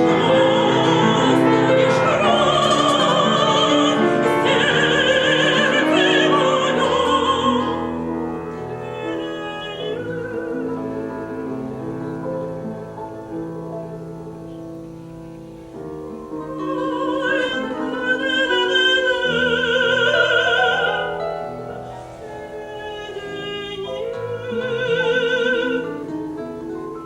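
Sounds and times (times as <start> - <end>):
woman singing with vibrato: 0.0 - 13.3, 16.1 - 27.0
piano accompaniment: 0.0 - 27.0.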